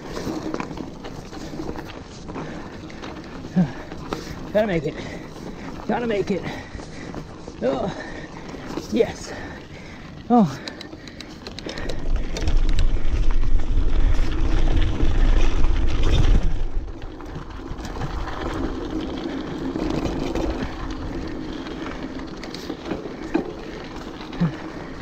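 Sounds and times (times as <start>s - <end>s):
bicycle rattling over rocks: 0.0s - 25.0s
wind and tyre rumble: 0.0s - 25.0s.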